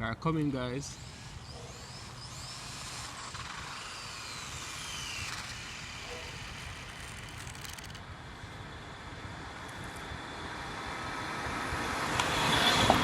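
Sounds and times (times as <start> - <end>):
high motor whine passing: 0.0 - 13.0.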